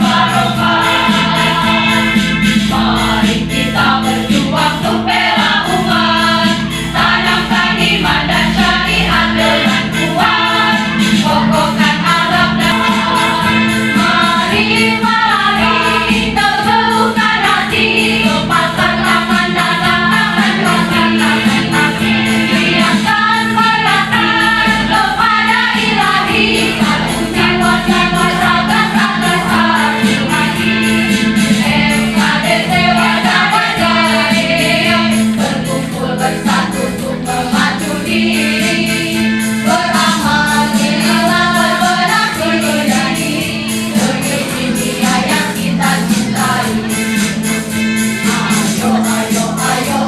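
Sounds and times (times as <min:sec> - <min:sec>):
choir singing: 0:00.0 - 0:50.0
musical accompaniment with steady beat: 0:00.0 - 0:50.0.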